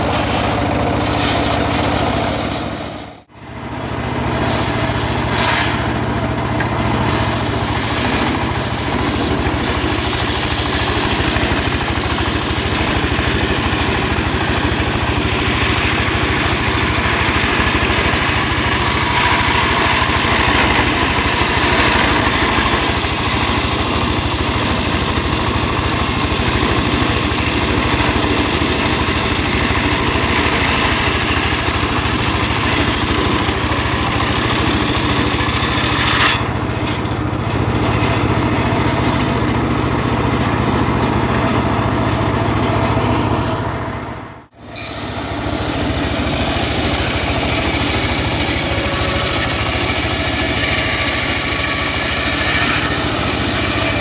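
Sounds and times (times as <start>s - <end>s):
sawmill blade ripping log: 0.0s - 3.1s, 4.4s - 43.6s, 44.6s - 54.0s.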